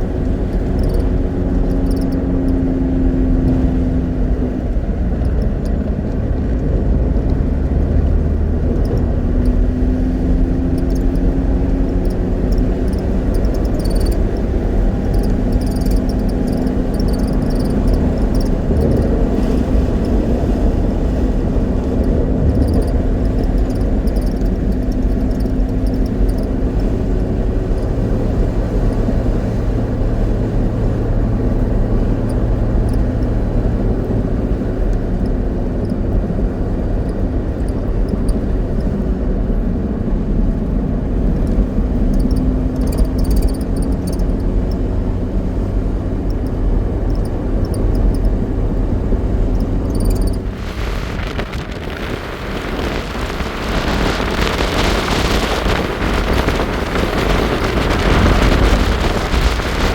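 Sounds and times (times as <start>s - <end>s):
car engine: 0.0s - 59.9s
road rumble: 0.0s - 59.9s.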